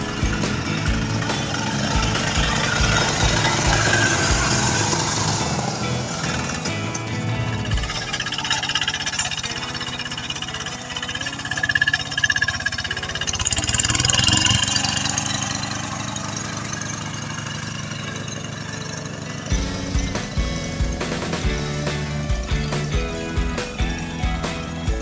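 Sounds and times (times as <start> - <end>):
diesel hand tractor engine running: 0.0 - 25.0.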